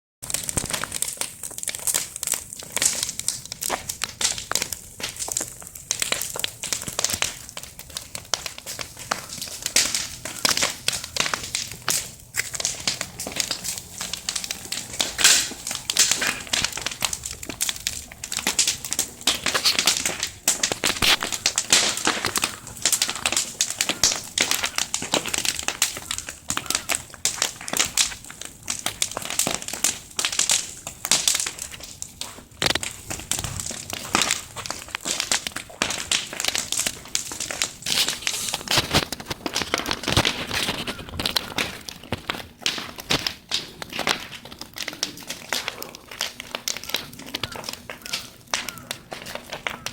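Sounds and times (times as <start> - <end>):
bonfire crackling and popping: 0.2 - 49.9.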